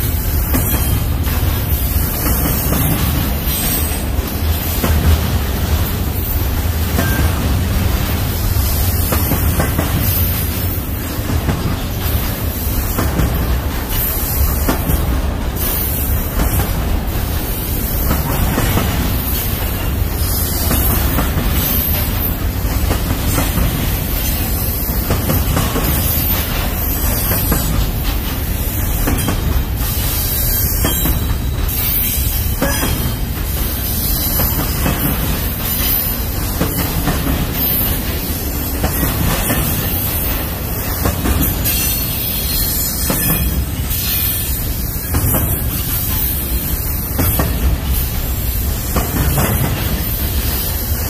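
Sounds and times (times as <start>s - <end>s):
wheels clicking over rail joints: 0.0s - 51.0s
wheels rumbling on rail: 0.0s - 51.0s.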